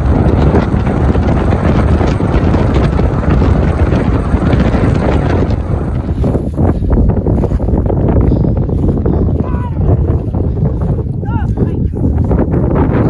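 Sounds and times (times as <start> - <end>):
tyre and road noise: 0.0 - 11.0
wind buffeting microphone: 0.0 - 13.0.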